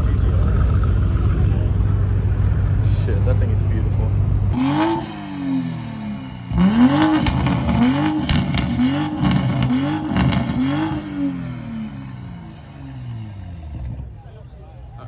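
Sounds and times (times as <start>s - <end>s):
car engine revving: 0.0s - 14.4s.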